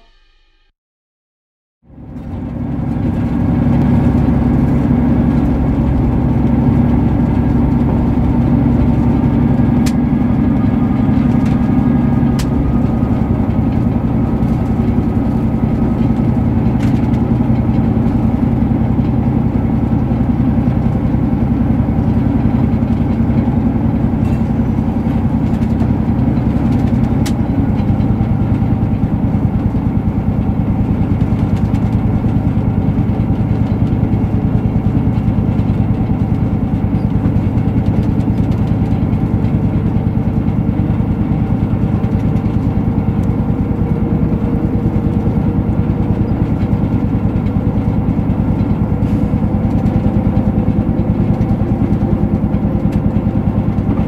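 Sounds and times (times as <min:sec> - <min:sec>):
diesel locomotive engine running: 0:01.8 - 0:54.0.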